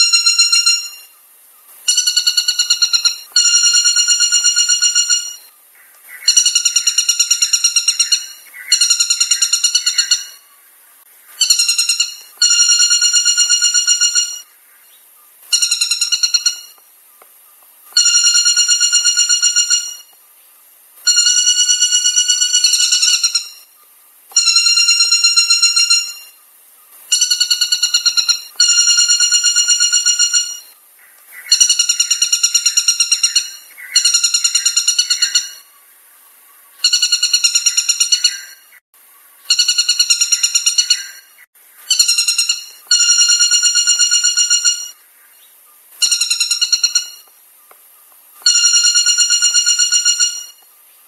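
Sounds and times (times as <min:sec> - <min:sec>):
woodpecker calling: 0:00.0 - 0:20.2, 0:21.1 - 0:50.8.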